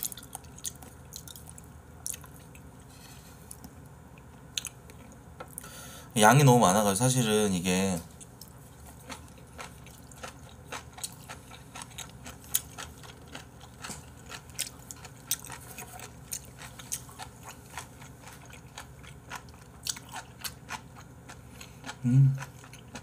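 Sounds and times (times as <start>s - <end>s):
person chewing: 0.0s - 5.7s, 8.2s - 23.0s.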